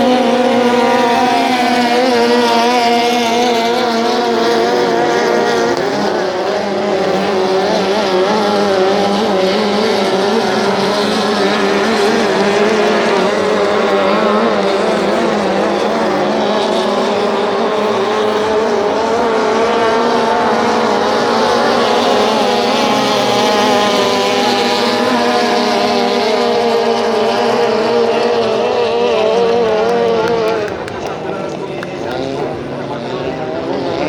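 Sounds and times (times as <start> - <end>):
outboard motors running at high revs: 0.0 - 34.0.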